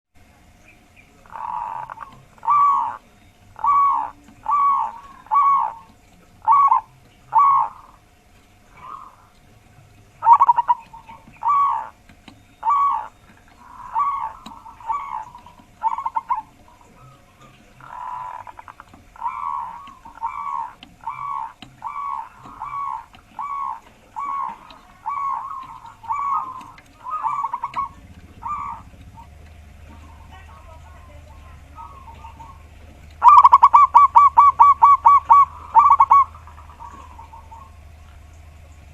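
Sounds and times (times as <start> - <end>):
dove cooing: 0.4 - 38.9.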